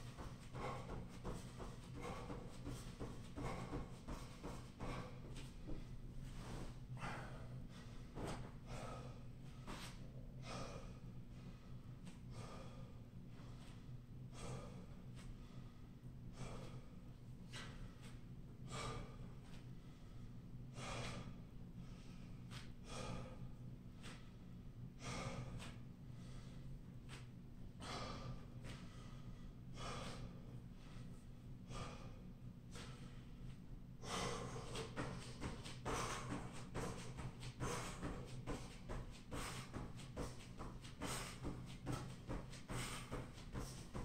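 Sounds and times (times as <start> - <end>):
man breathing hard: 0.0 - 44.0
steady low hum: 0.0 - 44.0.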